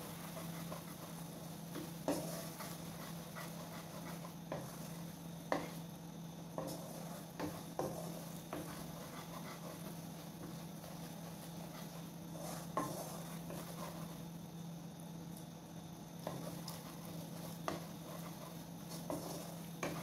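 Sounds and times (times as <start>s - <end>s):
spatula scraping in a wok: 0.0s - 5.8s, 6.6s - 14.2s, 16.2s - 20.0s
steady low hum: 0.0s - 20.0s.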